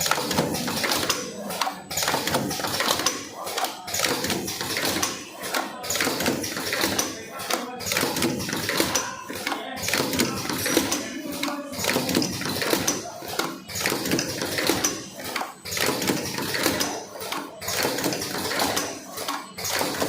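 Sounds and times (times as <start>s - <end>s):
packaging machine clatter: 0.0s - 20.0s.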